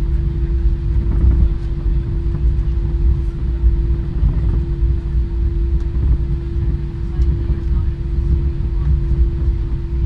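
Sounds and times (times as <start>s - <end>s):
constant even hum: 0.0s - 10.0s
low rumble of aircraft engines: 0.0s - 10.0s.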